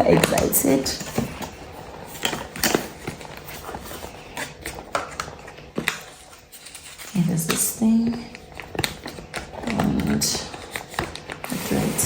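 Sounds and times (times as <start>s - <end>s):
packaging clicks and rustles: 0.0s - 12.0s.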